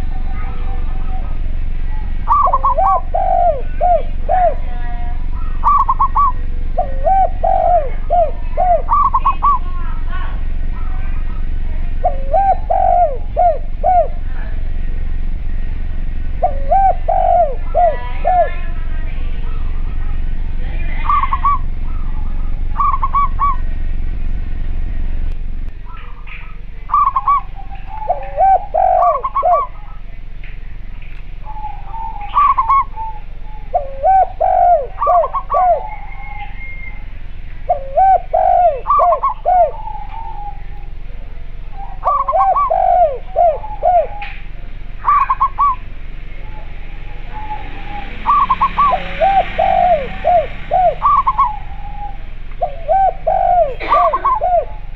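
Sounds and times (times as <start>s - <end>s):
dove cooing low rolling: 0.0s - 18.9s, 19.5s - 24.0s, 25.9s - 30.3s, 31.4s - 54.9s
dove cooing high: 0.0s - 23.8s, 25.9s - 30.3s, 31.3s - 54.9s
low rumble: 0.0s - 54.9s.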